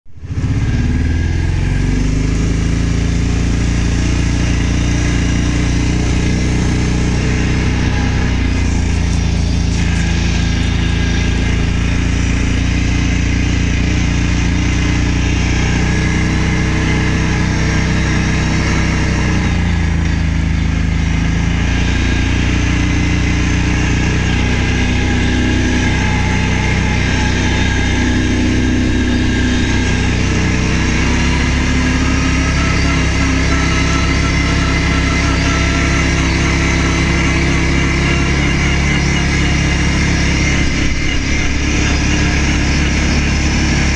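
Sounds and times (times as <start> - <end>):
quad engine running: 0.1 - 43.9.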